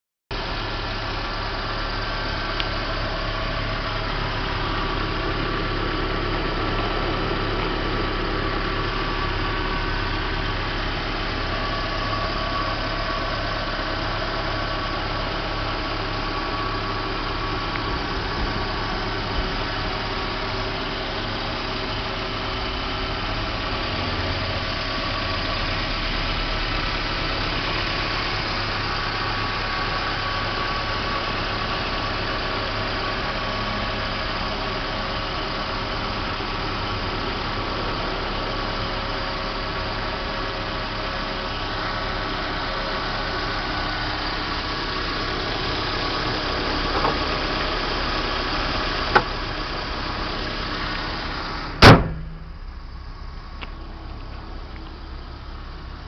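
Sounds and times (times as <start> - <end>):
pickup engine idling: 0.3 - 56.0.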